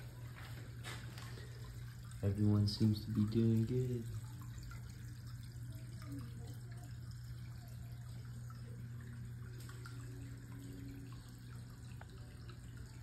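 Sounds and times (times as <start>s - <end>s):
water trickling into pond: 0.0s - 13.0s.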